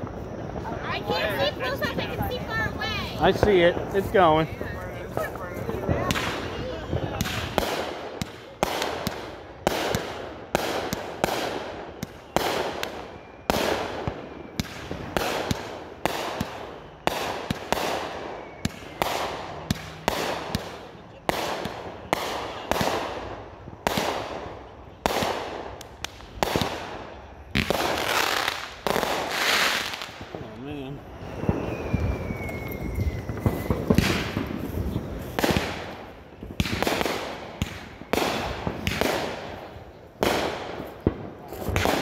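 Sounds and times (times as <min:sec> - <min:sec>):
firework bangs: 0:00.0 - 0:42.0.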